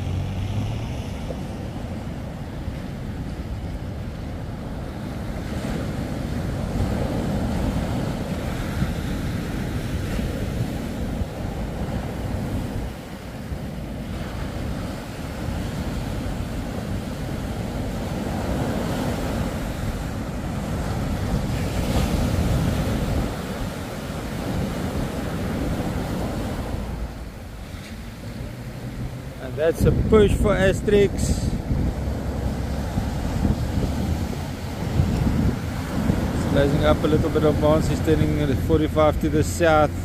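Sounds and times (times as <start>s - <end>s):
surf breaking on beach: 0.0s - 40.0s
wind buffeting microphone: 0.0s - 40.0s.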